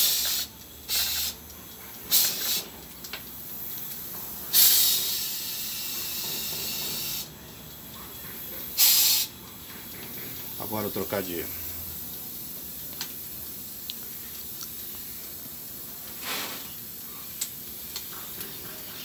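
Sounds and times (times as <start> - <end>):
powder-coating gun air hissing: 0.0 - 1.5, 2.1 - 7.3, 8.4 - 19.0.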